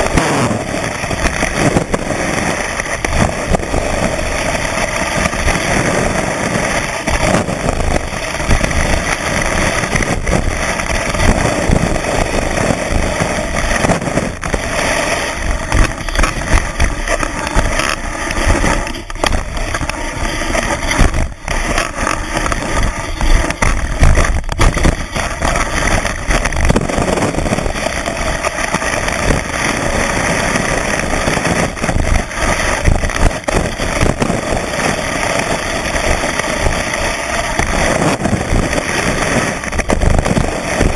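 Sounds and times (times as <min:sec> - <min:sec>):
skis hissing over snow: 0:00.0 - 0:40.9.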